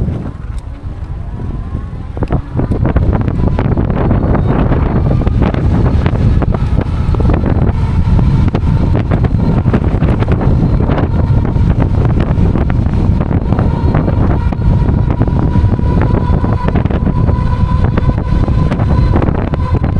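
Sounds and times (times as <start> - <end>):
faint thin whine: 0.0 - 19.9
wind buffeting microphone: 0.0 - 19.9.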